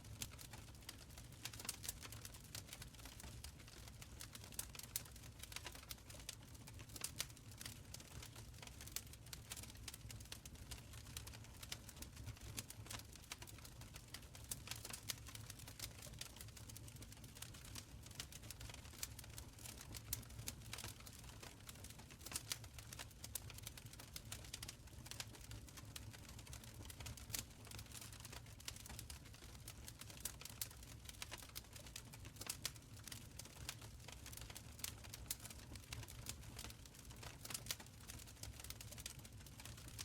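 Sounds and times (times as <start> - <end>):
low rumble of burning: 0.1 - 40.0
wood fire crackling and popping: 0.1 - 40.0.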